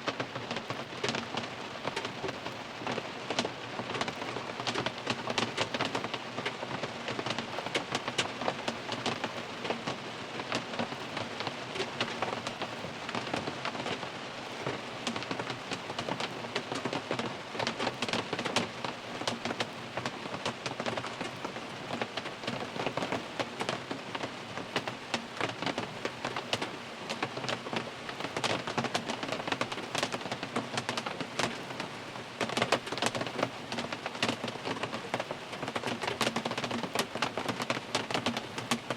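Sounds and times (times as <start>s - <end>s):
rain drumming on car roof: 0.0s - 38.9s.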